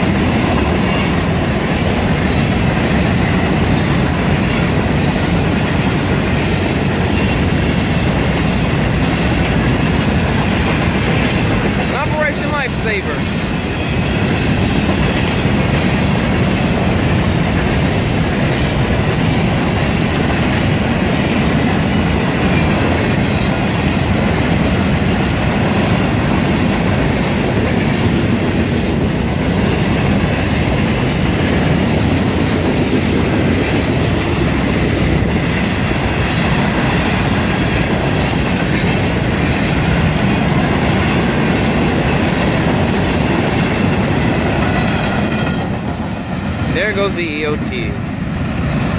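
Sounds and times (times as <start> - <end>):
freight train wheels clacking: 0.0 - 48.9.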